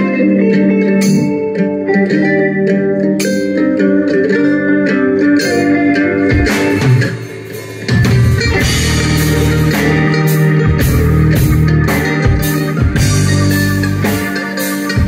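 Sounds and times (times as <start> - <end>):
drum kit: 0.0 - 15.0
electric bass: 0.0 - 15.0
electric guitar: 0.0 - 15.0.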